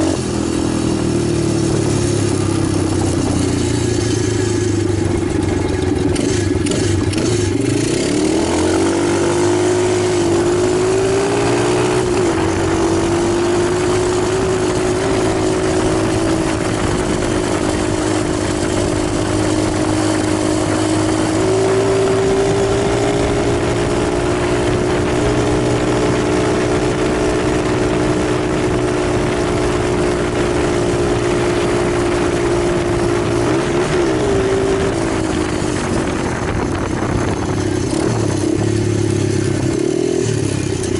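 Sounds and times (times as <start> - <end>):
pit bike engine running: 0.0 - 40.9.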